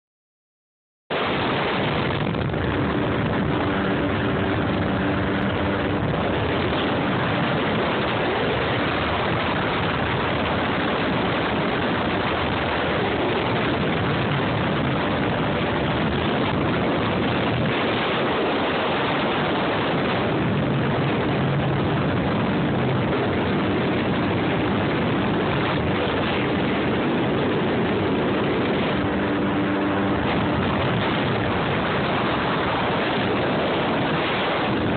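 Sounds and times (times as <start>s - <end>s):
jet ski engine running: 1.1s - 34.9s
rush of wind and water: 1.1s - 34.9s.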